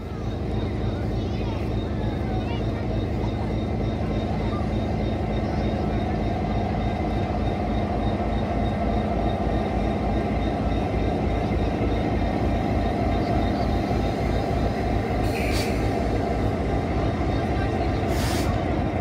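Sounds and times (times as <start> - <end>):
diesel locomotive rumbling past: 0.0 - 19.0.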